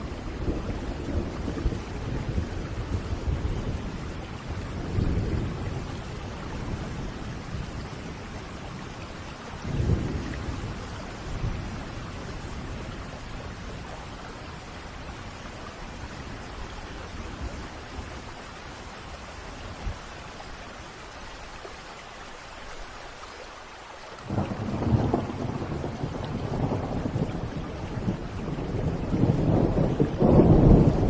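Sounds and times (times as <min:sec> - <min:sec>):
thunder rumble: 0:00.0 - 0:18.4, 0:24.2 - 0:31.0
steady rain: 0:00.0 - 0:31.0.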